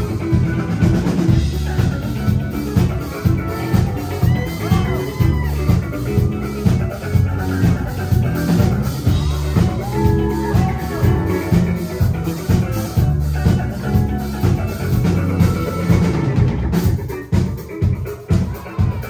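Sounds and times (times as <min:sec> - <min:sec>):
drum kit dance beat: 0:00.0 - 0:19.0
live band music: 0:00.0 - 0:19.0.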